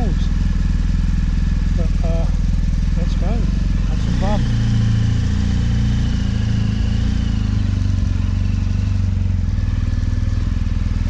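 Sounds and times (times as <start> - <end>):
motorcycle engine running low revs: 0.0 - 11.0.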